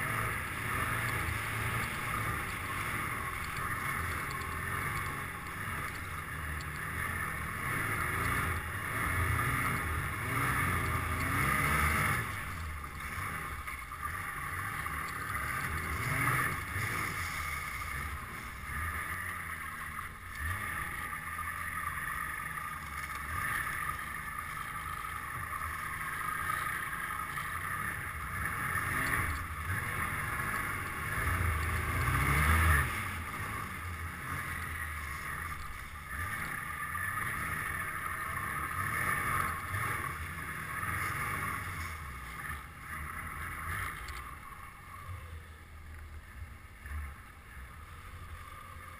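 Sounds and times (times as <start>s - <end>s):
snowmobile engine under load: 0.0s - 48.9s.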